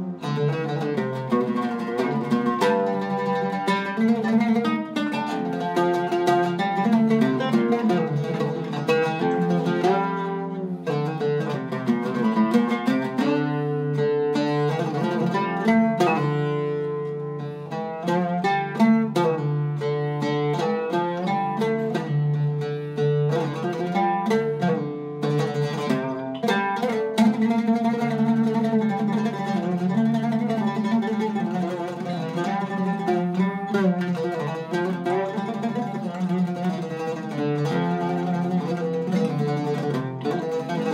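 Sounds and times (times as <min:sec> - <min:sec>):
oud played with plectrum: 0:00.0 - 0:40.9.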